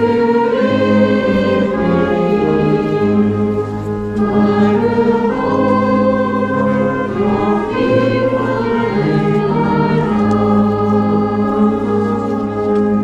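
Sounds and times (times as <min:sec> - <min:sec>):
brass band accompanying: 0:00.0 - 0:13.0
congregation singing a hymn: 0:00.0 - 0:13.0.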